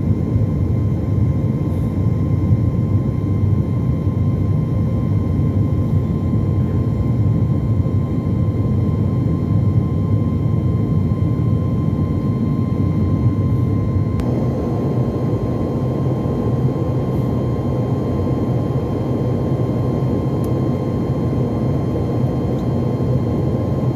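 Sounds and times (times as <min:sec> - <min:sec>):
faint steady whine: 0:00.0 - 0:23.9
jet engines and airflow rumbling: 0:00.0 - 0:23.9.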